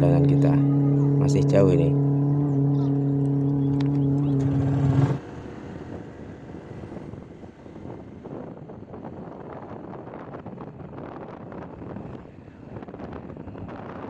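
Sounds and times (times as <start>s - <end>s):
engine hum: 0.0s - 14.0s
road noise from moving vehicle: 0.0s - 14.0s
wind buffeting microphone: 0.0s - 14.0s.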